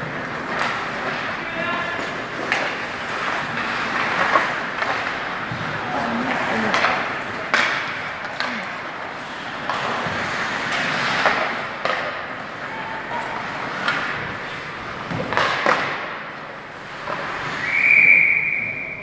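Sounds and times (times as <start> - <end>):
skates scraping on ice: 0.0 - 18.2
sticks and puck clacking: 0.0 - 18.4.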